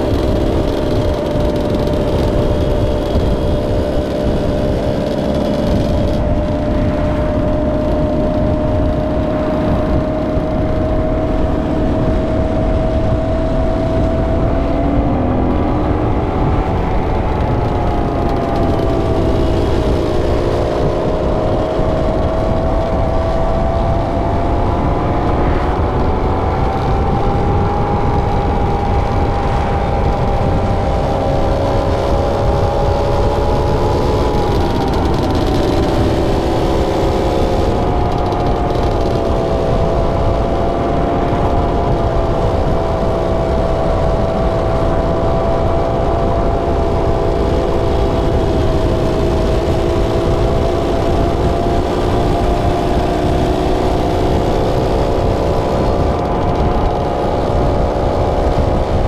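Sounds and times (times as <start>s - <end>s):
dirt bike engines cruising: 0.0s - 59.0s
wind rumbling on microphone: 0.0s - 59.0s.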